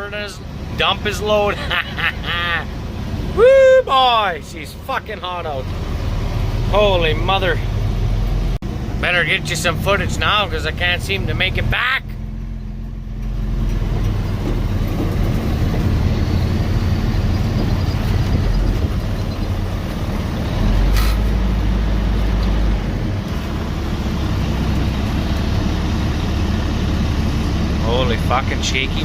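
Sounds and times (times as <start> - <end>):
truck engine drone: 0.0 - 29.0.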